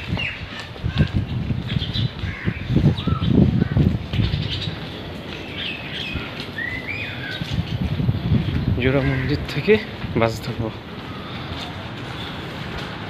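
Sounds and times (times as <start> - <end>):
birds chirping: 0.0 - 13.0
low rustling noise: 0.0 - 13.0
street noise hum: 0.0 - 13.0.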